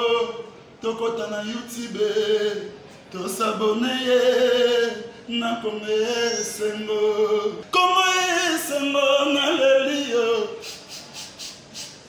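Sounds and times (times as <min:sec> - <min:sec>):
man singing unaccompanied chant: 0:00.0 - 0:12.0.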